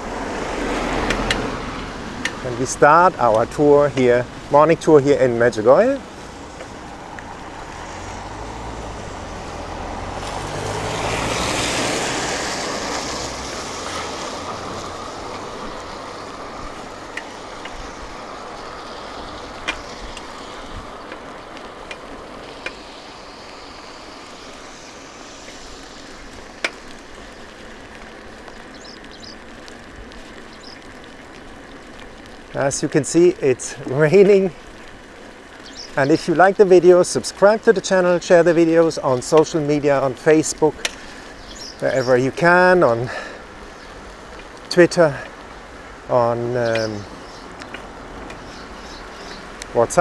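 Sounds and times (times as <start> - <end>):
steady hiss: 0.0 - 50.0
vehicle tyres hissing on wet road: 0.0 - 50.0.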